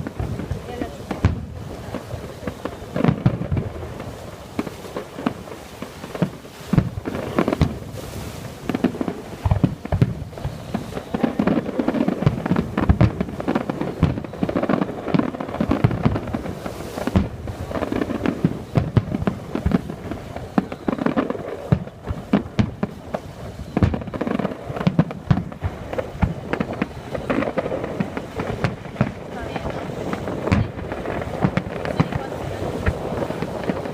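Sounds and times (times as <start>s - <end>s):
deep fireworks booms: 0.0s - 33.9s
fireworks bangs and crackles: 0.0s - 33.9s.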